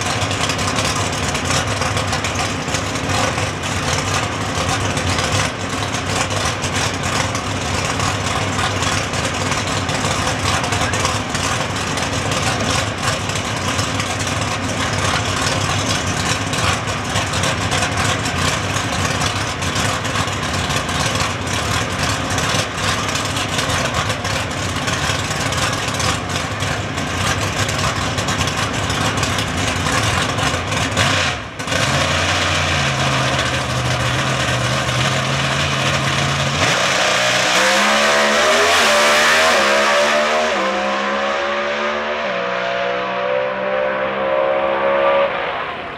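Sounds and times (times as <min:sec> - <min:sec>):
drag racing car engine: 0:00.0 - 0:45.9.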